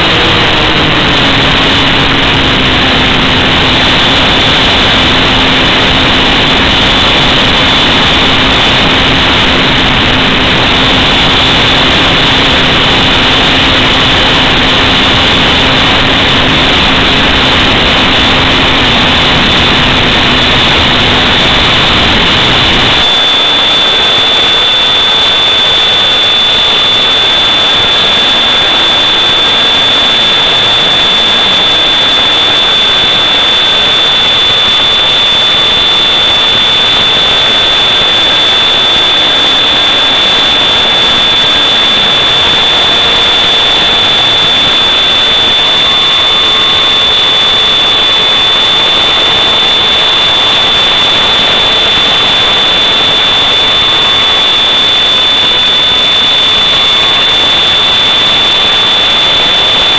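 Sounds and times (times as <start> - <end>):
high whine: 0.0 - 59.9
loud steady hiss: 0.0 - 59.9
low hum: 0.0 - 59.9.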